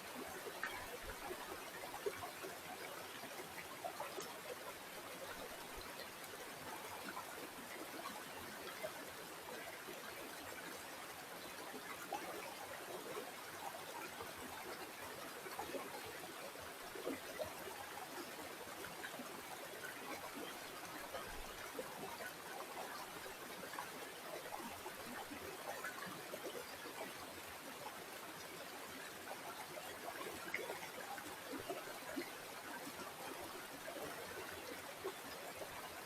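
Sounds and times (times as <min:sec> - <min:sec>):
stream trickling and gurgling: 0:00.0 - 0:36.0.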